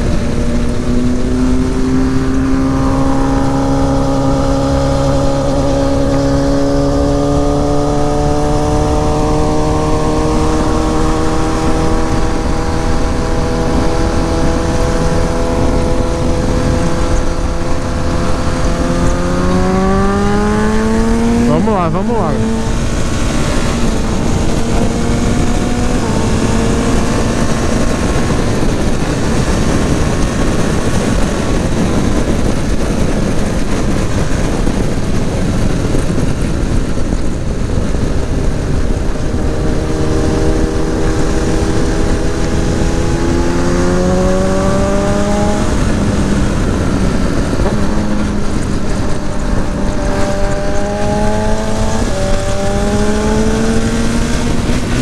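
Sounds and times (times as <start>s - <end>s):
motorcycle engine at speed: 0.0s - 55.0s
wind rush on microphone: 0.0s - 55.0s.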